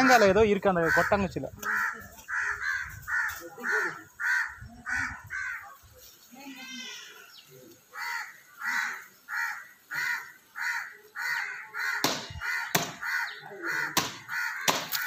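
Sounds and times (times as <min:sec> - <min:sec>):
crows cawing: 0:00.8 - 0:05.8, 0:07.9 - 0:15.0.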